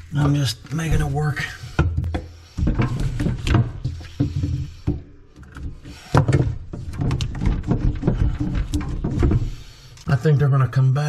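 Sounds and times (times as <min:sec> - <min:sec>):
pipes and tools knocking and scraping: 0:00.0 - 0:10.4.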